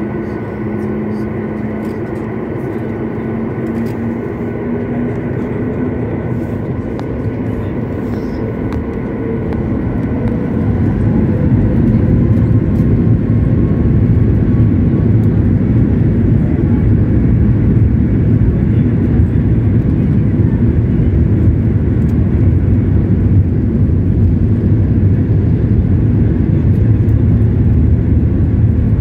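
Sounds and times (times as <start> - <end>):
jet engine rumble inside cabin: 0.0 - 29.0.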